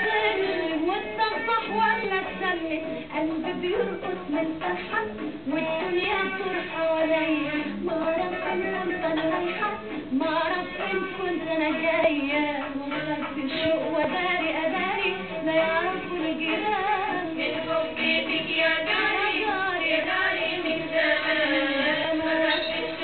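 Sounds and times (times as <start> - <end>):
woman singing: 0.0 - 23.0.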